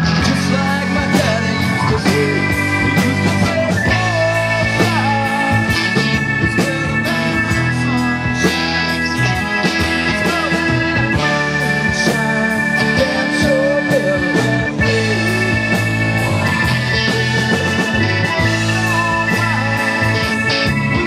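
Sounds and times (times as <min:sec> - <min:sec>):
bass guitar: 0:00.0 - 0:21.0
drum kit beat: 0:00.0 - 0:21.0
electric and acoustic guitars: 0:00.0 - 0:21.0
keyboard chords: 0:00.0 - 0:21.0.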